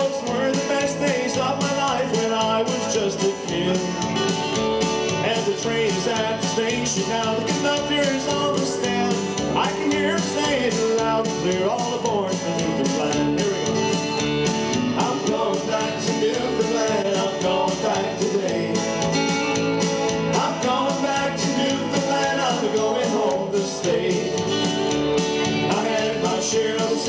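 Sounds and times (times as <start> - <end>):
acoustic guitar strumming: 0.0 - 27.0
bass guitar: 0.0 - 27.0.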